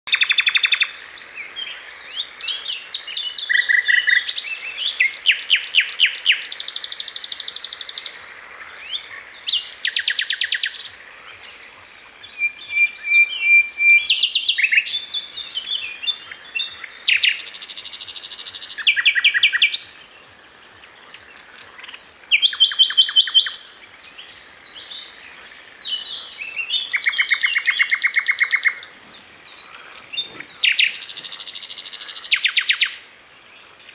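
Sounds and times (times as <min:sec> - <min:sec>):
songbird trilling: 0:00.1 - 0:11.0, 0:11.8 - 0:20.0, 0:21.1 - 0:33.2
songbird chirps: 0:00.1 - 0:33.9.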